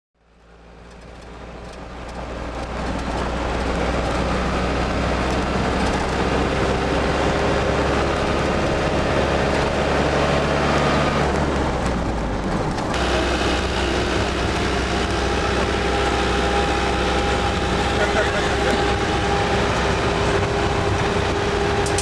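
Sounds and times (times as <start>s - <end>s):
car engine and road noise: 0.2s - 22.0s.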